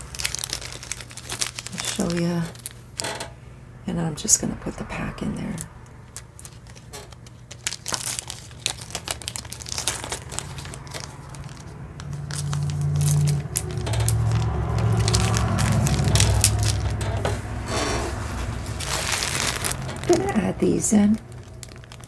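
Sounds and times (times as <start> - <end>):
plastic bag crinkling: 0.0 - 3.3, 6.0 - 22.0
low steady hum: 0.0 - 22.0.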